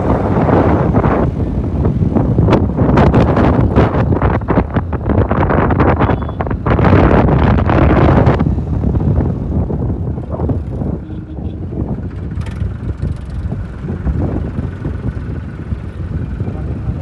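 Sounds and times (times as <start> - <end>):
tractor engine rumbling: 0.0 - 17.0
wind buffeting microphone: 0.0 - 17.0.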